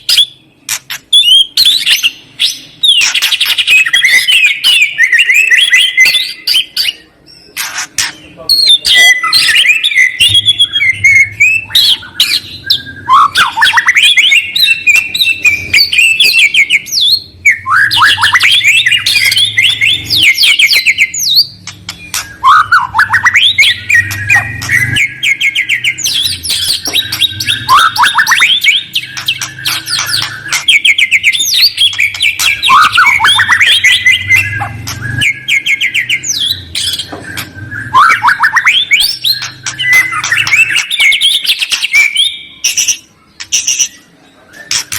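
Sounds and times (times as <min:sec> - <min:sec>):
songbird chirps and trills: 0:00.0 - 0:44.9.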